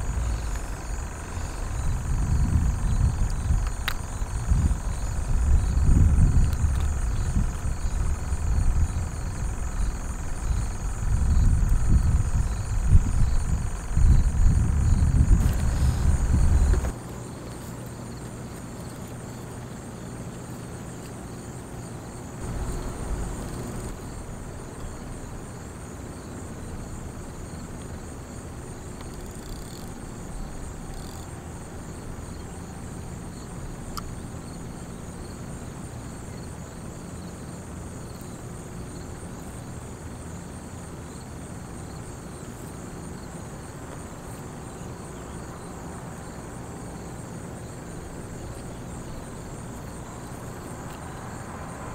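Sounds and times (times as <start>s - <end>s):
low steady hum: 0.0s - 20.7s, 22.0s - 51.9s
insects trilling: 0.0s - 51.9s.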